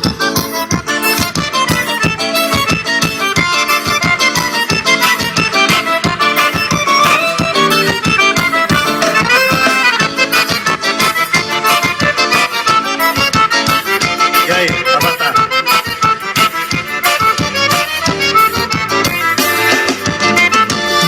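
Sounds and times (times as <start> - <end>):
accordion music on car stereo: 0.0 - 21.0.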